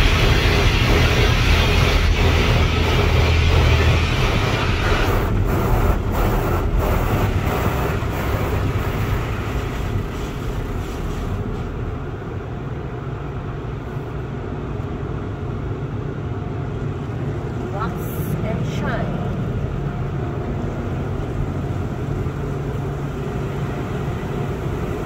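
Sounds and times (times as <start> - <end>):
car wash water spraying: 0.0 - 15.8, 16.4 - 25.0.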